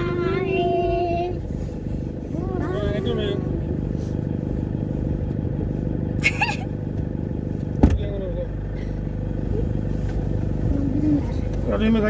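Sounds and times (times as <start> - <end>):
road rumble: 0.0 - 12.0
vehicle engine running: 0.0 - 12.0.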